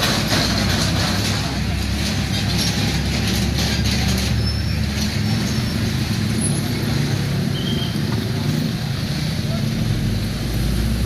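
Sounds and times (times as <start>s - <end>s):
heavy vehicle engine humming: 0.0s - 11.0s
traffic noise: 0.0s - 11.0s.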